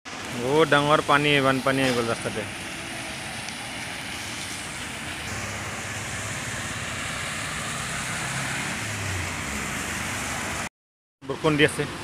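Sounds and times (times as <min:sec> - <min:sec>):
tyres hissing through water: 0:00.1 - 0:10.7
vehicles passing on wet road: 0:00.1 - 0:12.0.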